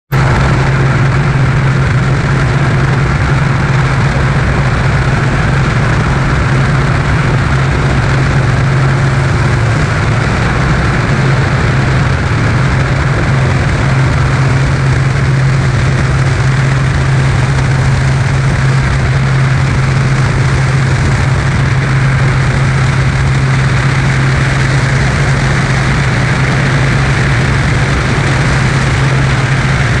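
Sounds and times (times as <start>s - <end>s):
propeller aircraft engine drone: 0.1s - 30.0s
rushing air: 0.1s - 30.0s.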